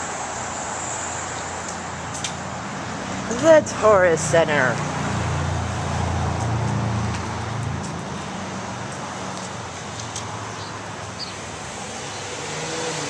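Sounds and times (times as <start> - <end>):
passing vehicle engine rumble: 0.0 - 13.0
street noise: 0.0 - 13.0.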